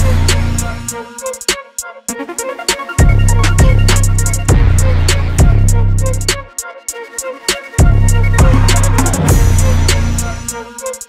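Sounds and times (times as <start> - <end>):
hip-hop music with heavy bass: 0.0 - 11.0.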